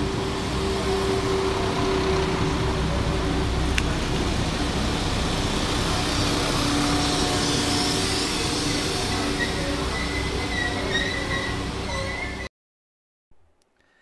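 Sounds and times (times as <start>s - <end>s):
diesel train engine humming: 0.0s - 12.5s.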